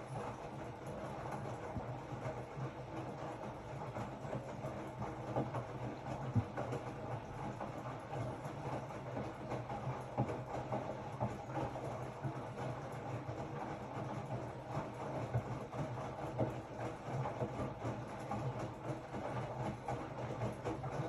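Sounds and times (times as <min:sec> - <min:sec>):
washing machine hum: 0:00.0 - 0:21.0.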